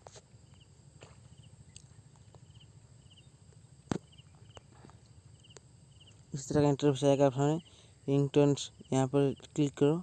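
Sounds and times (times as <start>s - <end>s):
cricket chirping: 0.0s - 10.0s
low steady hum: 0.0s - 10.0s.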